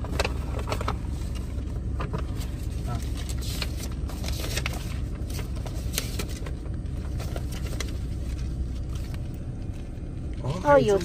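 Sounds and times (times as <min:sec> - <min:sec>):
car cabin rumble: 0:00.0 - 0:11.0
medicine packets rustling: 0:00.0 - 0:11.0.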